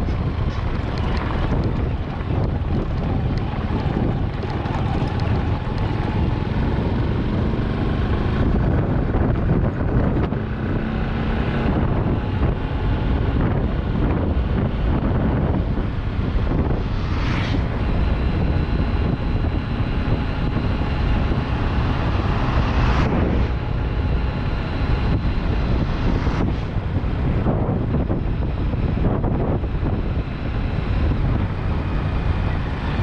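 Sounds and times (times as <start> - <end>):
vehicle rumble on road: 0.0 - 33.0
wind buffeting microphone: 0.0 - 33.0.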